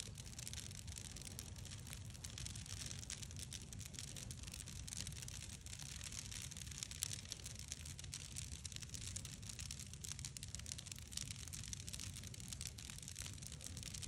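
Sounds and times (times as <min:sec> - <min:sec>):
bonfire crackling and popping: 0:00.0 - 0:14.0
fire low rumble: 0:00.0 - 0:14.0.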